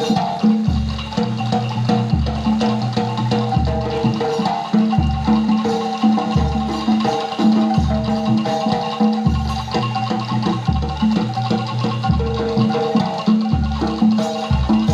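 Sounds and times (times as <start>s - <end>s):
metal mallet instruments melody: 0.0s - 14.9s.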